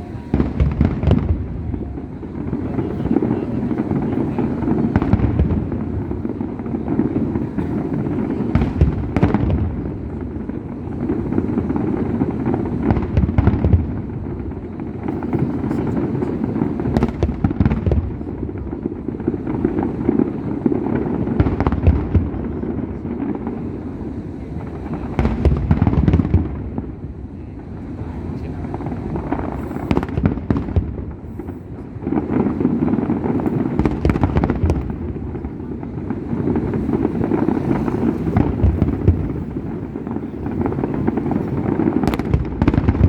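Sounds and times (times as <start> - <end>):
fireworks rumble and cracks: 0.0 - 43.0.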